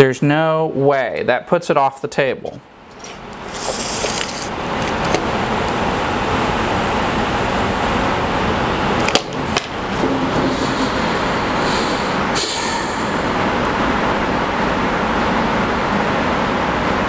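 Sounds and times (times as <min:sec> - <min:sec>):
steady mechanical rumbling: 0:02.3 - 0:17.0.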